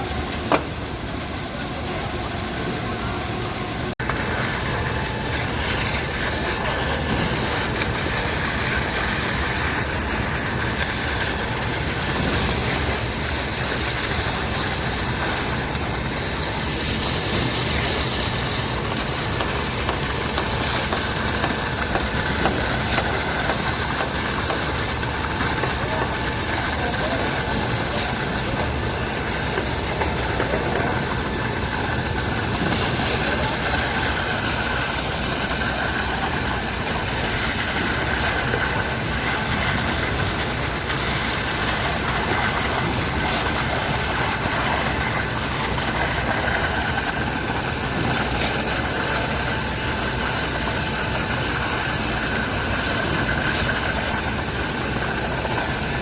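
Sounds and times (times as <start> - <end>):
pump engine running steadily: 0.0 - 56.0.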